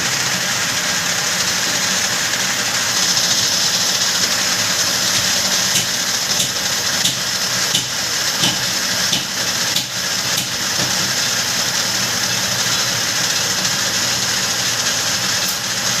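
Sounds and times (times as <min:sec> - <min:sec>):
lathe cutting hiss: 0:00.0 - 0:16.0
lathe motor hum: 0:00.0 - 0:16.0.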